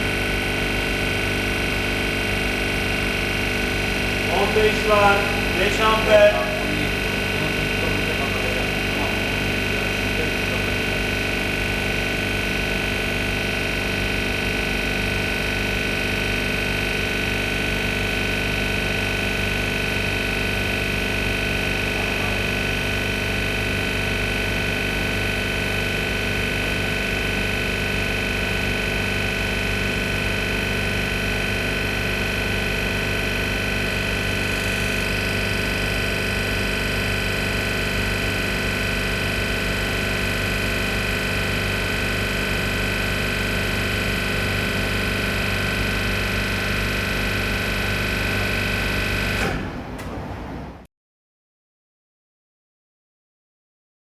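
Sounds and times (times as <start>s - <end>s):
refrigeration compressor humming: 0.0s - 50.7s.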